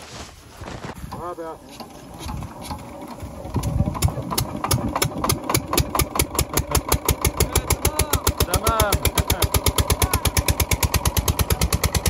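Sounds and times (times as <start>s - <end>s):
petrol engine water pump running: 1.6s - 12.0s.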